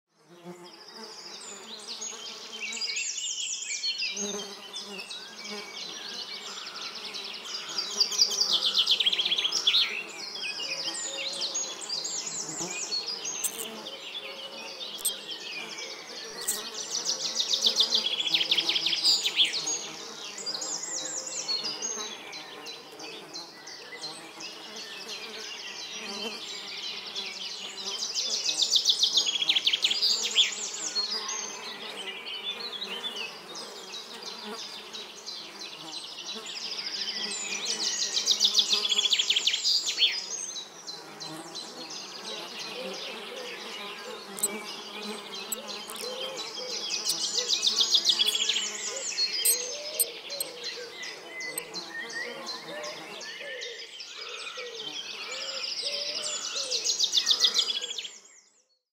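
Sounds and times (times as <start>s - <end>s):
flying insects buzzing: 4.2s - 53.3s.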